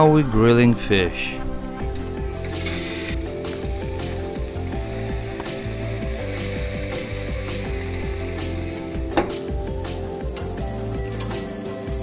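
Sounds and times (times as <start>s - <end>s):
background music with bass line: 0.0s - 12.0s
fish sizzling on a grill: 2.1s - 12.0s.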